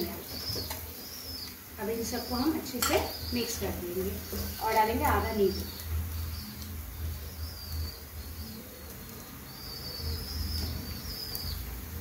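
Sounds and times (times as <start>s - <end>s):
low steady hum: 0.0s - 12.0s
small birds chirping: 0.0s - 12.0s.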